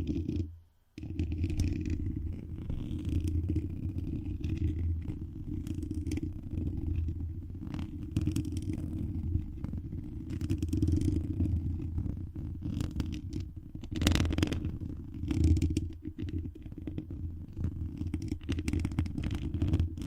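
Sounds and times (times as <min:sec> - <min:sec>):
cat purring: 0:00.0 - 0:20.0
scratchy rubbing on microphone: 0:00.0 - 0:20.0.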